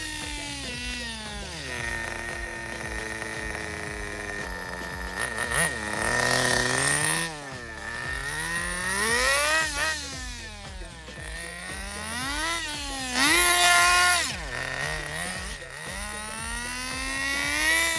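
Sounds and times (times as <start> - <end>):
small nitro engine revving: 0.0 - 17.9.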